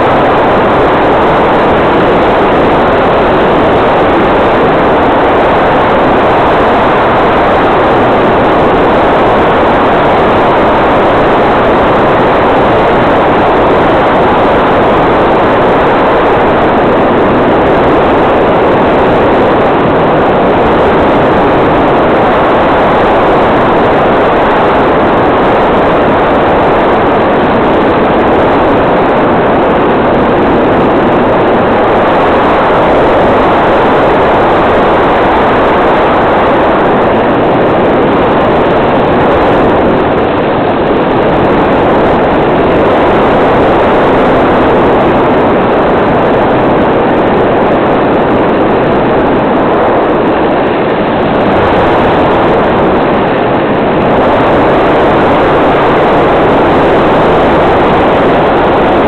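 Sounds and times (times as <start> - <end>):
model plane motor and airflow rush: 0.0 - 59.0.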